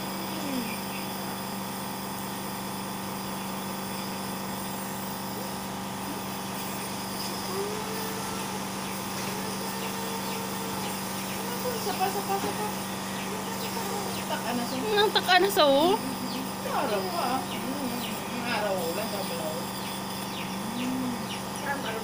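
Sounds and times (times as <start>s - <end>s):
nebulizer compressor humming: 0.0s - 22.0s.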